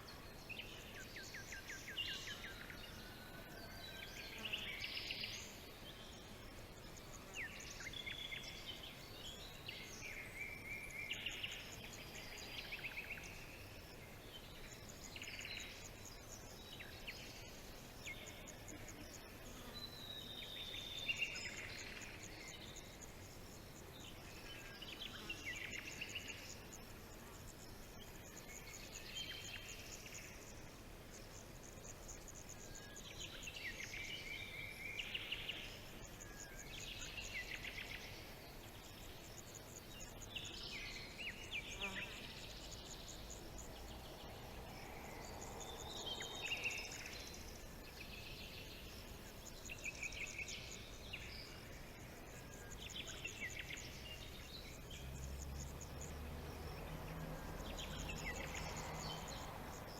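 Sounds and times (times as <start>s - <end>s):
faint background hiss: 0.0s - 59.9s.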